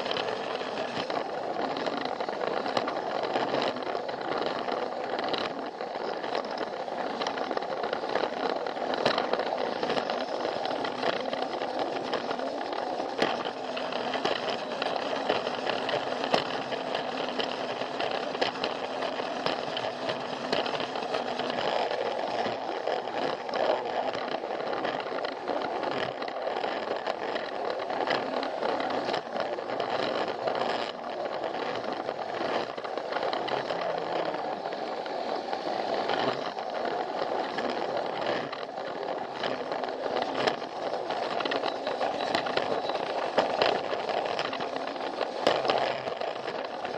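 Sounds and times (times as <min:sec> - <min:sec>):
toy train motor whirring: 0:00.0 - 0:46.9
wheels clicking over track joints: 0:00.0 - 0:46.9.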